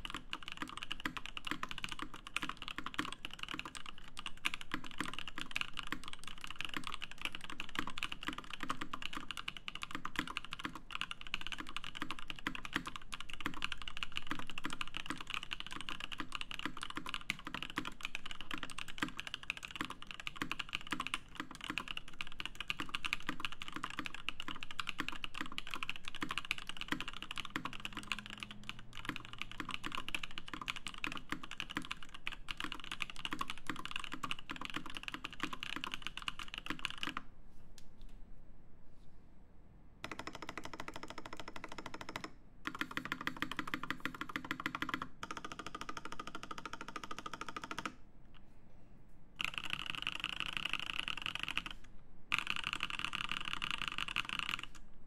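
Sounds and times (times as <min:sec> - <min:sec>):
fast typing on mechanical keyboard: 0:00.0 - 0:37.3, 0:40.0 - 0:48.0, 0:49.4 - 0:54.8.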